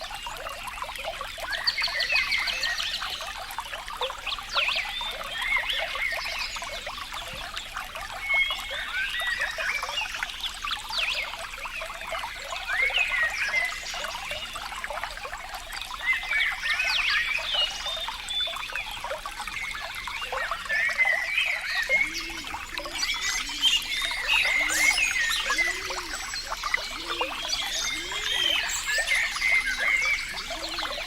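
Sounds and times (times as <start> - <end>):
water trickling and gurgling: 0.0 - 31.0.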